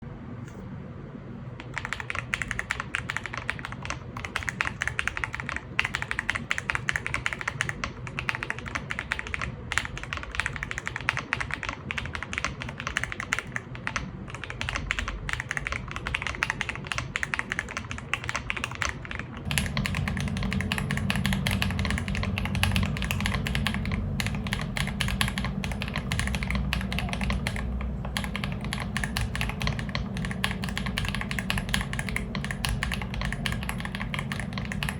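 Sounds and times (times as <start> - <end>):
mechanical keyboard typing: 1.6 - 34.9.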